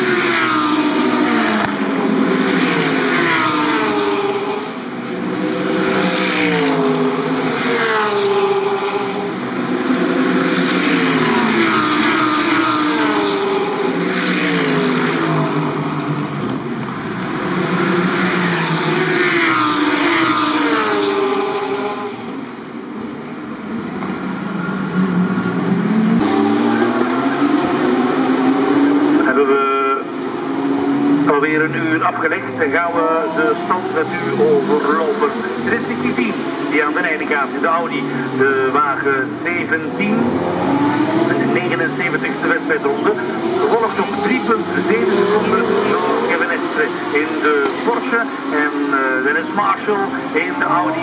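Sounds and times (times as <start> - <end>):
race cars passing: 0.0 - 51.0.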